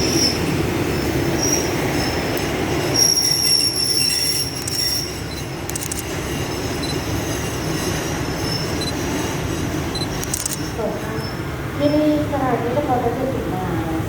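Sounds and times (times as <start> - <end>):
train wheels squealing: 0.0 - 12.2
low rumble of train cars: 0.0 - 14.0.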